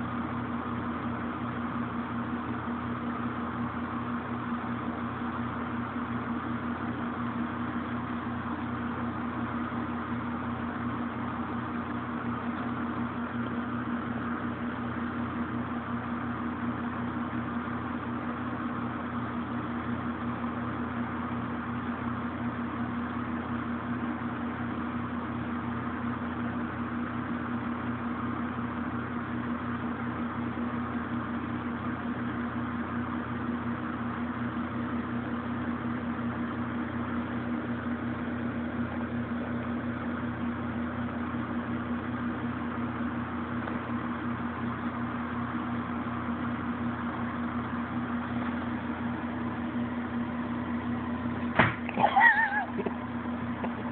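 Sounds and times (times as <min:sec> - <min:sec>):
steady mechanical hum: 0:00.0 - 0:53.9.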